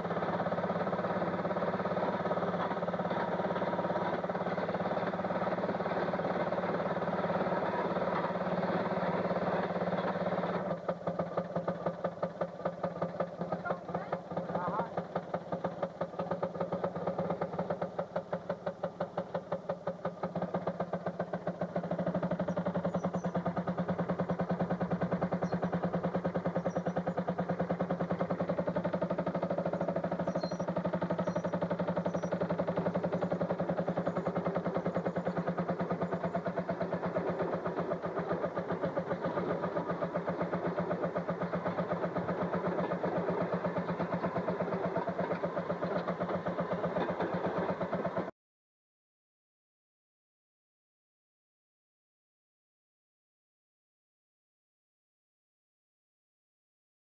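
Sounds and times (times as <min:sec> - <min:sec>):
motorcar engine popping: 0:00.0 - 0:48.3.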